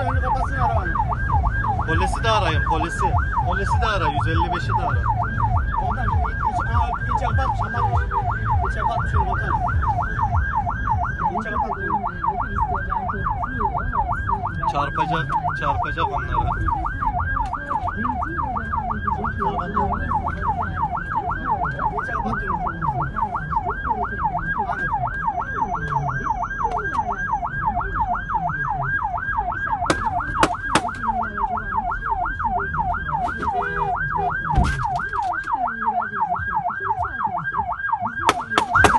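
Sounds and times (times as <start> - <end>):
engine and road noise: 0.0 - 38.9
siren yelping: 0.0 - 38.9.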